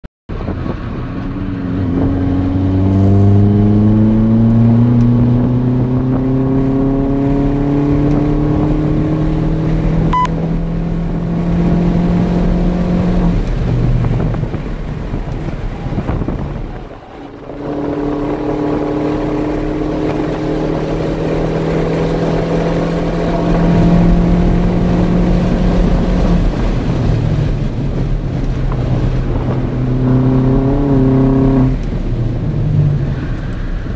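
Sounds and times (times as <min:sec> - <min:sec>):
car engine accelerating: 0:00.3 - 0:33.9.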